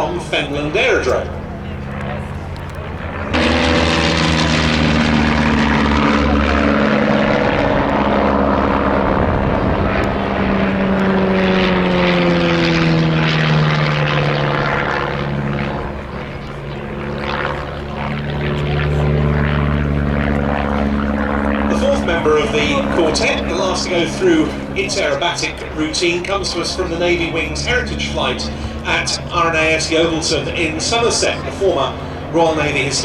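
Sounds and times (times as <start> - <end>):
propeller plane engine droning: 0.0 - 33.0.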